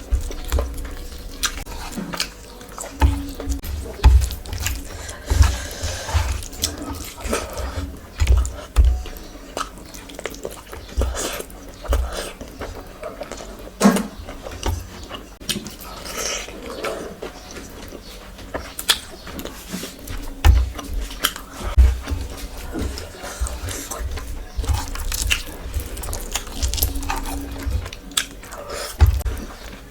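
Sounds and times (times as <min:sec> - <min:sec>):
wet chewing and lip smacks: 0:00.0 - 0:21.7, 0:22.6 - 0:29.8.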